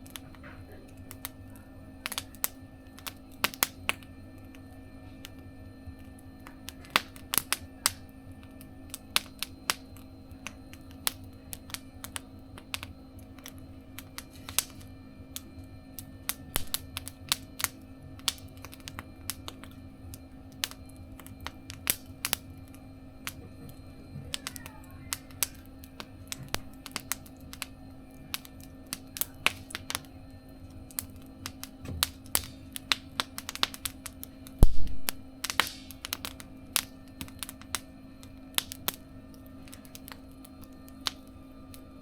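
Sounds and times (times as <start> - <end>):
low steady hum: 0.0 - 42.0
wood fire crackling and popping: 0.0 - 42.0.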